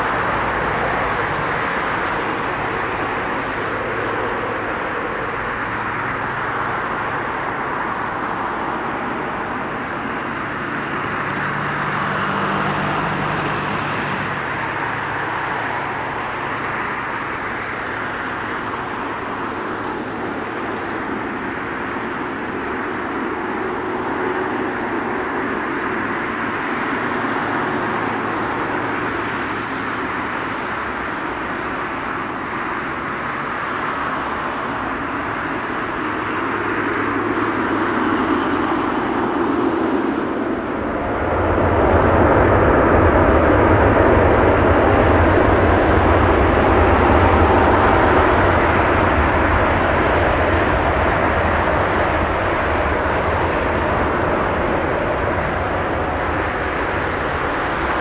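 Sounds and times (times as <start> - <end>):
jet engines running and spooling up: 0.0 - 58.0.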